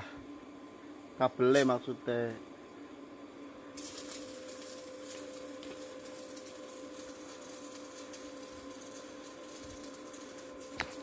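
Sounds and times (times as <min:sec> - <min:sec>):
constant hiss: 0:00.0 - 0:11.0
faint machine hum: 0:00.0 - 0:11.0.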